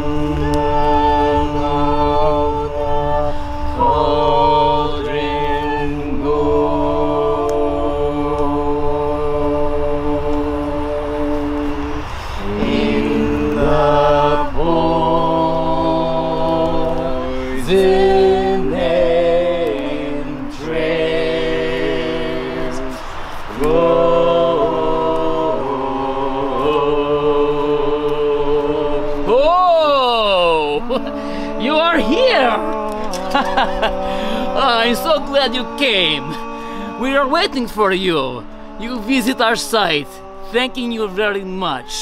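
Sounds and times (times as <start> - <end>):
voices singing chant in harmony: 0.0 - 42.0.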